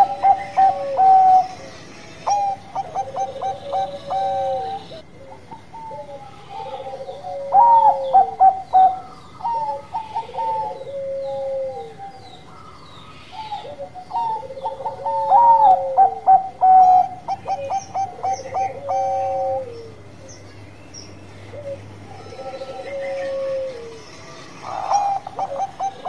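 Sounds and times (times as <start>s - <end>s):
dove cooing: 0.0s - 20.4s, 21.5s - 26.0s.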